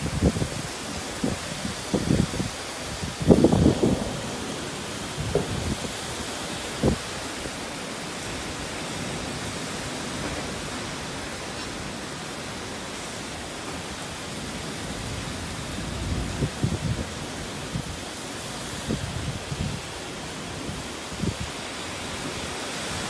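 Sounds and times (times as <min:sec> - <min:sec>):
heavy rain hiss: 0:00.0 - 0:23.0.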